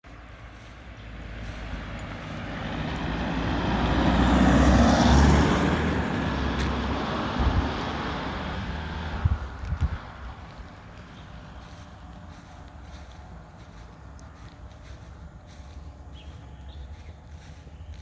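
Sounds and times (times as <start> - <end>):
vehicle passing by: 0.1 - 18.0.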